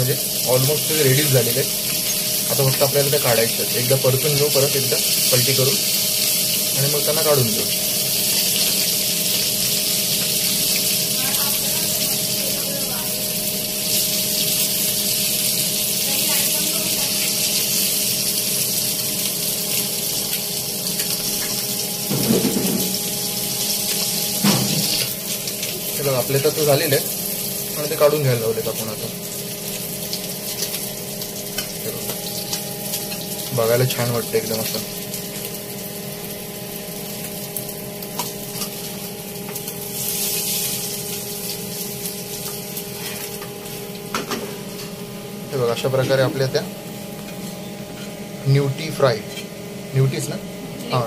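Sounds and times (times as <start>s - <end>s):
fish sizzling in hot oil: 0.0s - 48.4s.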